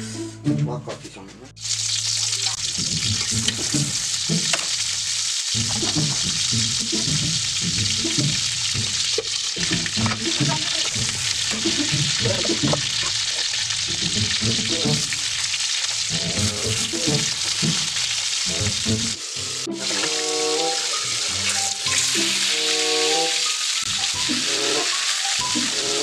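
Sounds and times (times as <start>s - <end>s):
loud steady hissing: 1.6s - 26.0s.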